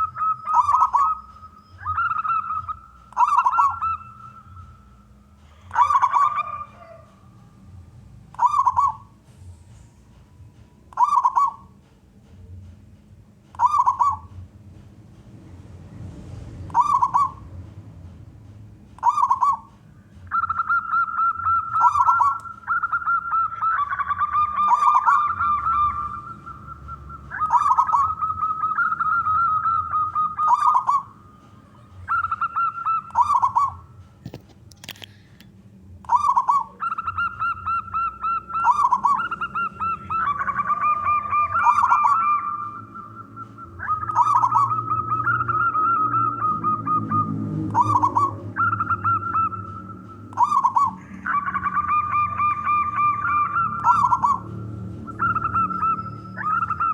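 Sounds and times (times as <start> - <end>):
doves cooing: 0.0 - 11.9, 13.5 - 14.6, 16.6 - 18.2, 18.9 - 35.1, 36.1 - 56.9.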